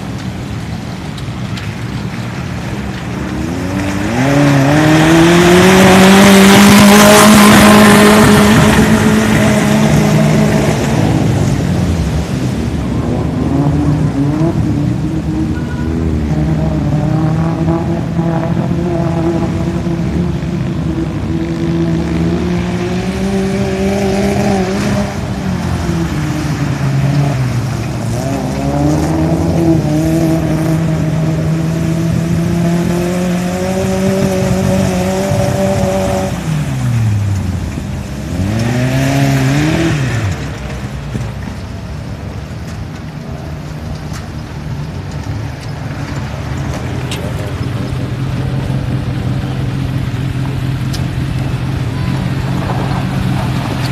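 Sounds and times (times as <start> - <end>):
jeep engine revving: 0.0 - 53.9
water splashing: 0.0 - 53.9.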